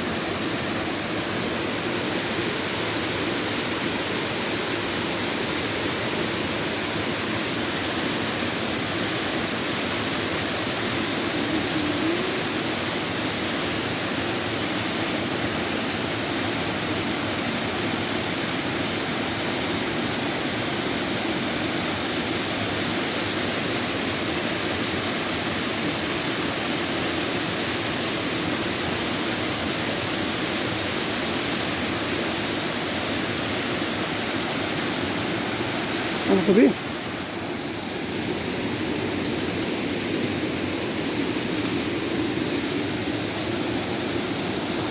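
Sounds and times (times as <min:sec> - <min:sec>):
rushing white water: 0:00.0 - 0:44.9.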